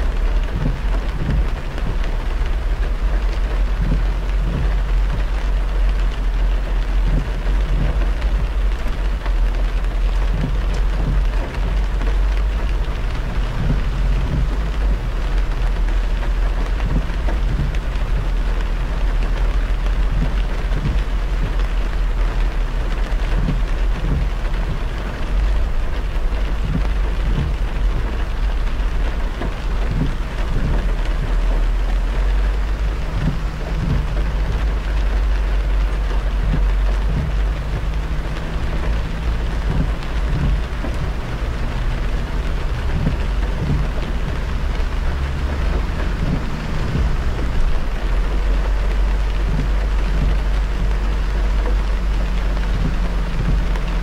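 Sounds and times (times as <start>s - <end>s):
deep road and wind rumble: 0.0s - 54.0s
rain pattering: 0.0s - 54.0s
tyres hissing on wet road: 0.0s - 54.0s.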